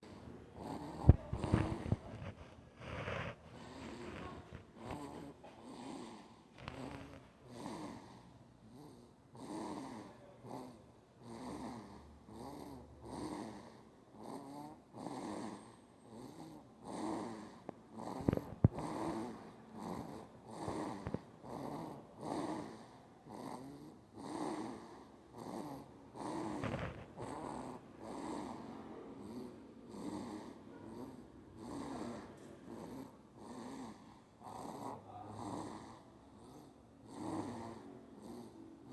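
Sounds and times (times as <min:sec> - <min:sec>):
baby snoring: 0:00.0 - 0:38.9.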